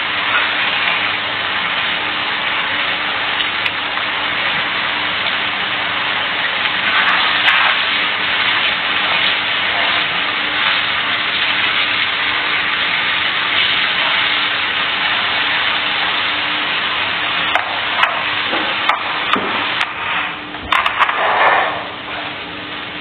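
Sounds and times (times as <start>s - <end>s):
oil sizzling in a pan: 0.0s - 23.0s.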